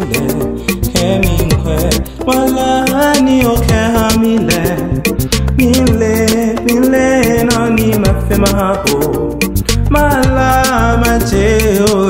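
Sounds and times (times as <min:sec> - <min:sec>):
bass: 0:00.0 - 0:12.0
percussion strokes: 0:00.0 - 0:12.0
upbeat gospel song: 0:00.0 - 0:12.0.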